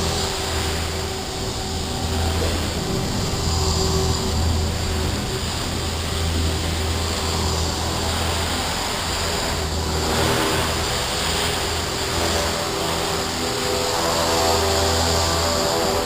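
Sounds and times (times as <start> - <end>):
rc helicopter rotor drone: 0.0 - 16.0.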